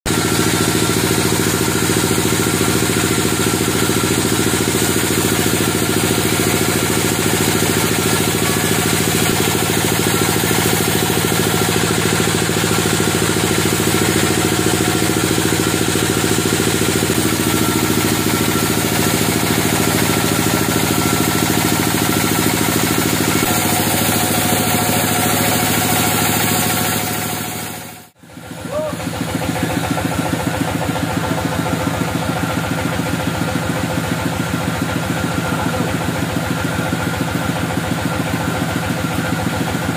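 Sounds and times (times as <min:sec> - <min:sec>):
band sawmill cutting log: 0:00.1 - 0:39.9
steady machine hum: 0:00.1 - 0:39.9.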